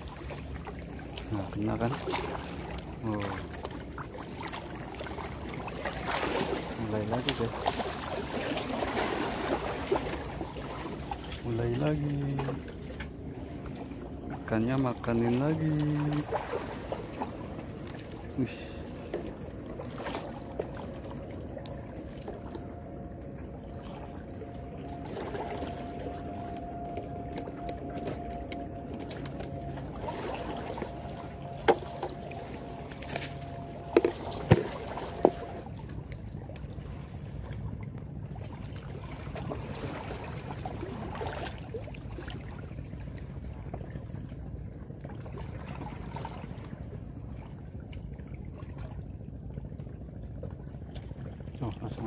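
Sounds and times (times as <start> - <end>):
steady hum: 0.0 - 52.0.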